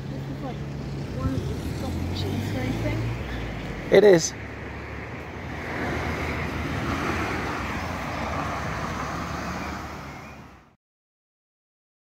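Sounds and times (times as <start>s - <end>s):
car passing: 0.0s - 10.8s.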